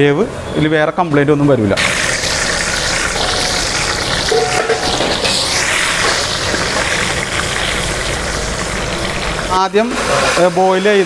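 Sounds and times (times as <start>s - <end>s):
chicken deep-frying in oil: 1.7s - 11.0s.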